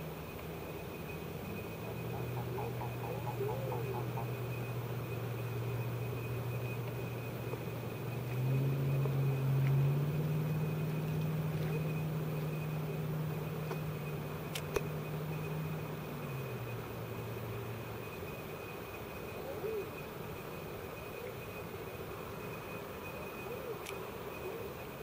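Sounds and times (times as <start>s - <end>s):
motor engine droning: 0.0s - 25.0s.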